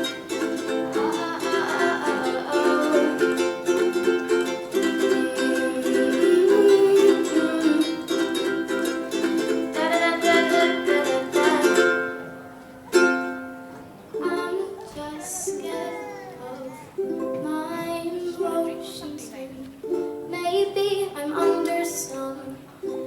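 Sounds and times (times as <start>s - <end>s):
ukulele strumming chords: 0.0s - 23.0s.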